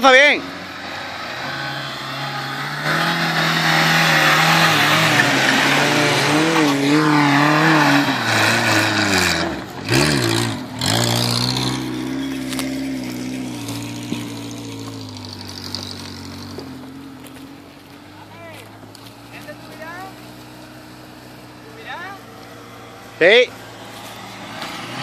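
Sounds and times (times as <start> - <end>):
engine revving under load: 0.0 - 25.0
tyres on dirt: 0.0 - 25.0.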